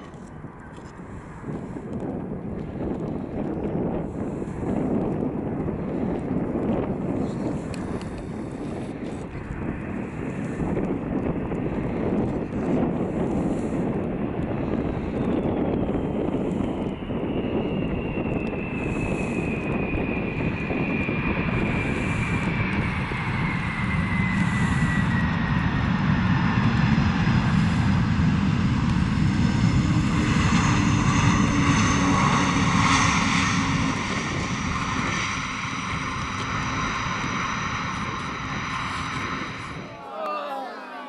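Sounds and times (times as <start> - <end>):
jet engines roaring: 0.0 - 40.1.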